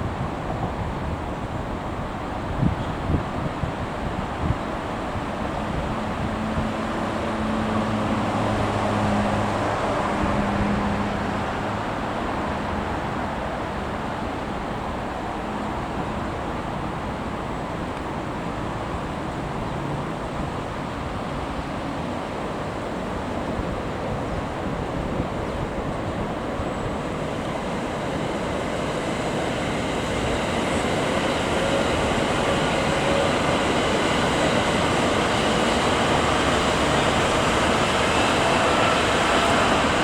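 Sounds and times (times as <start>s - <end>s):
passing traffic: 0.0s - 40.0s
wind: 0.0s - 40.0s.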